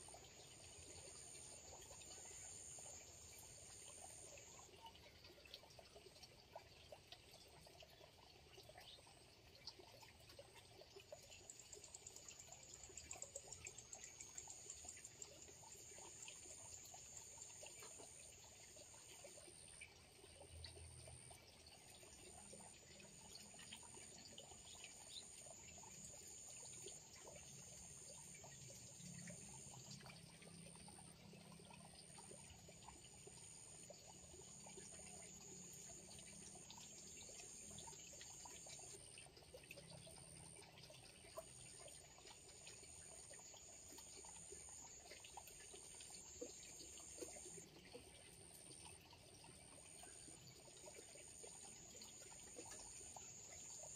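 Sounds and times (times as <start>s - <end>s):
insect steady buzzing tone: 0.0s - 53.9s
water trickling: 0.0s - 53.9s.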